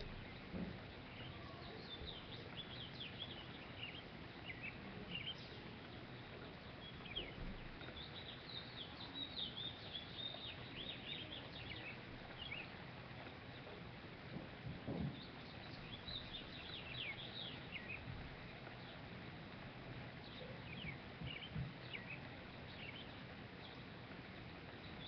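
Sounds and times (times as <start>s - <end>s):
low background hiss: 0.0s - 25.0s
songbirds chirping: 0.0s - 25.0s.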